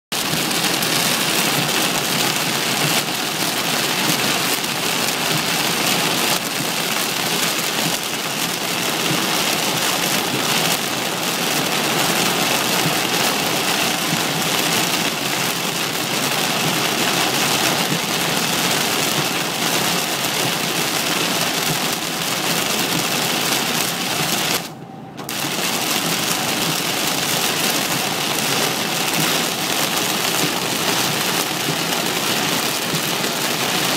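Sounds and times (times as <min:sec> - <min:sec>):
heavy rain on car roof: 0:00.1 - 0:33.9.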